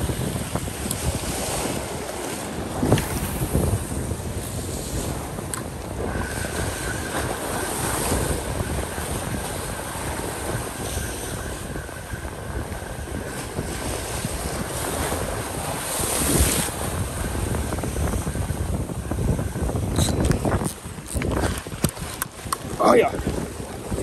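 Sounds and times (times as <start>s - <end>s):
surf breaking on rocky shore: 0.0s - 24.0s
wind rumbling on microphone: 0.0s - 24.0s.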